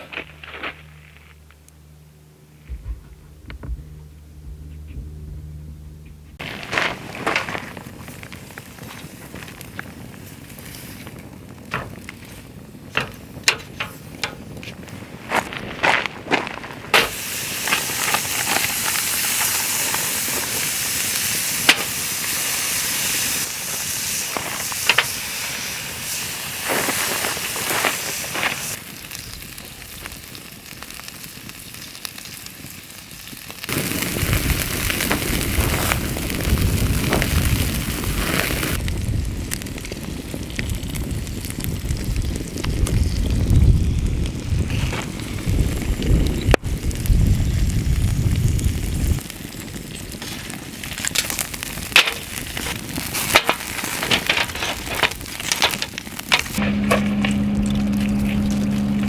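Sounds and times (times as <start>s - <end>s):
wood fire crackling and popping: 0.0s - 2.0s, 6.0s - 59.0s
rush of burning fire: 0.0s - 5.0s, 6.3s - 59.0s
ribs sizzling over fire: 6.4s - 59.0s.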